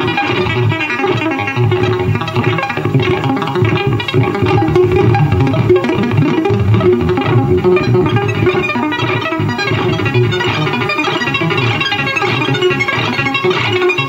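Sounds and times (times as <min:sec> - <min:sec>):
loud live music: 0:00.0 - 0:14.0.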